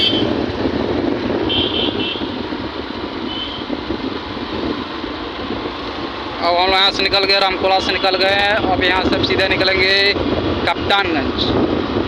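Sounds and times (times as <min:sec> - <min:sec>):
vehicle wind and road noise: 0:00.0 - 0:12.0.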